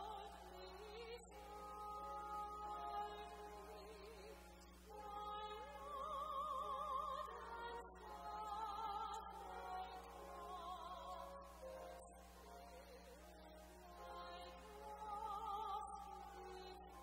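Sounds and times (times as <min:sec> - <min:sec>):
person singing a slow hymn: 0:00.0 - 0:17.0.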